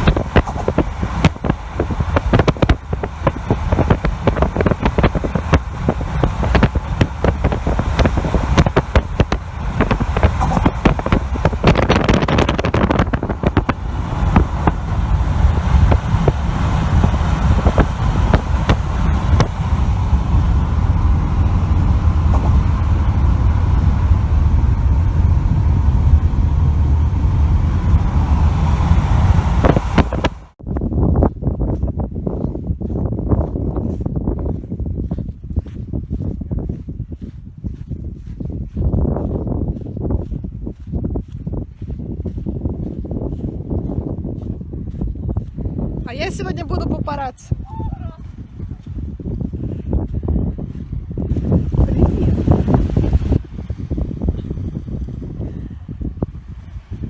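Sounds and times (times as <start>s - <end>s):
road vehicle running: 0.0s - 57.0s
wind buffeting microphone: 0.0s - 57.0s.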